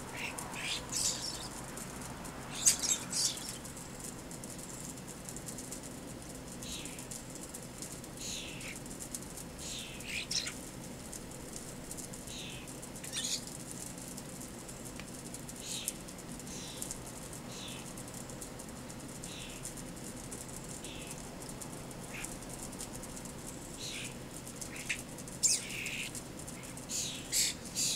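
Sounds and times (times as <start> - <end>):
wings flapping: 0.0 - 27.9.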